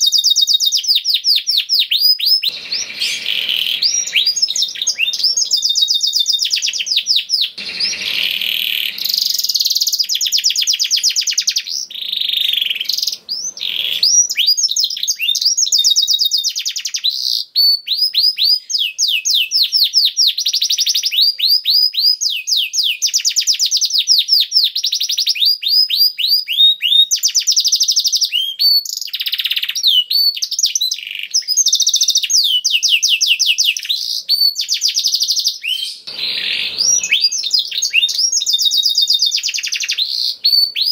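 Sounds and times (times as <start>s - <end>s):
canary singing trills: 0.0s - 23.5s, 24.6s - 40.9s.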